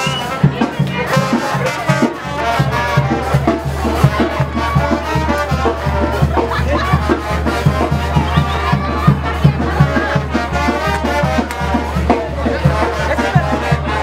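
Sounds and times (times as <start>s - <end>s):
brass band playing: 0.0s - 14.0s
drum and bass beat: 0.0s - 14.0s.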